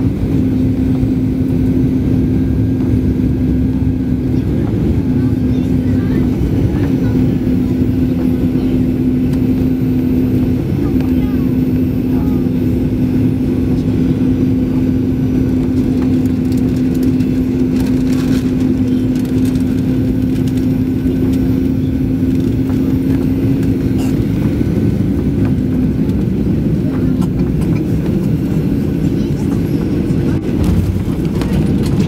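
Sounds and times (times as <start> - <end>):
aircraft cabin low rush: 0.0 - 32.0
steady engine hum: 0.0 - 32.0.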